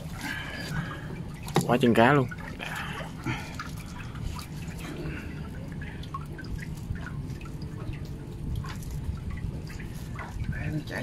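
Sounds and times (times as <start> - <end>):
low steady rumble: 0.0 - 11.0
water dripping and splashing: 0.0 - 11.0.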